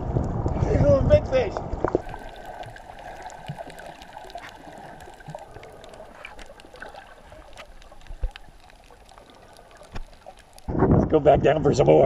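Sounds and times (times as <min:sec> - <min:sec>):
faint underwater clicks and crackles: 0:00.0 - 0:12.0
muffled underwater movement: 0:01.6 - 0:12.0.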